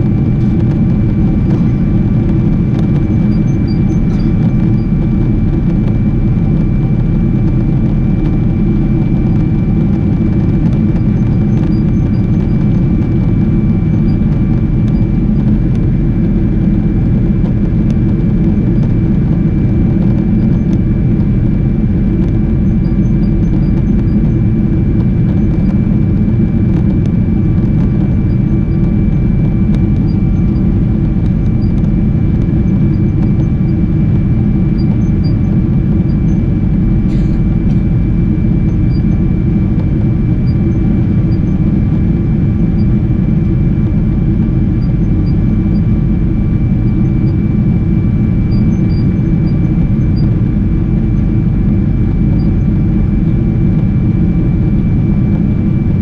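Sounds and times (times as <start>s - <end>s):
aircraft cabin engine rumble: 0.0s - 56.0s
thin high whine: 0.0s - 56.0s.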